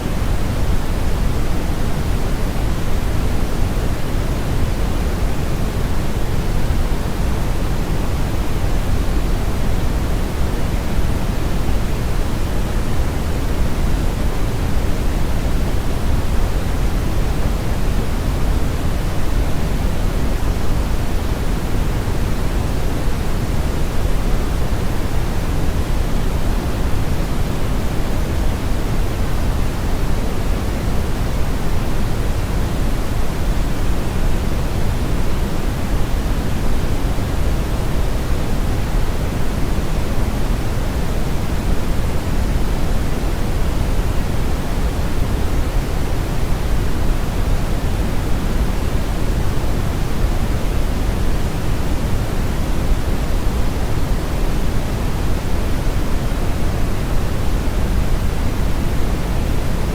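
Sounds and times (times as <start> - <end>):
brown and white noise hiss: 0.0 - 59.9.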